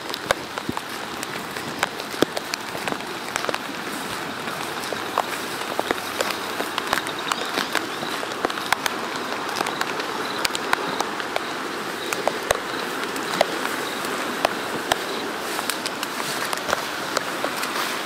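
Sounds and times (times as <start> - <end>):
flooded creek rushing: 0.0 - 18.0
raindrops tapping: 0.0 - 18.0
steady rain hiss: 0.0 - 18.0.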